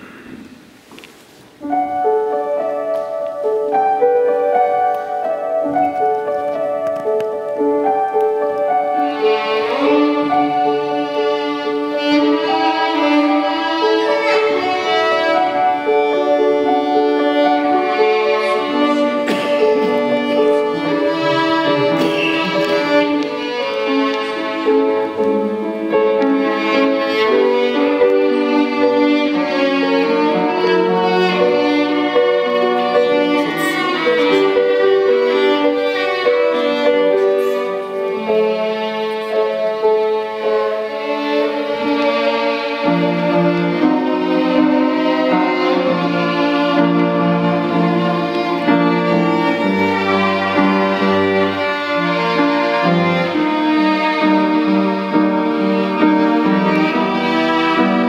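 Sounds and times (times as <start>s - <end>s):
violin duet: 1.0s - 58.0s.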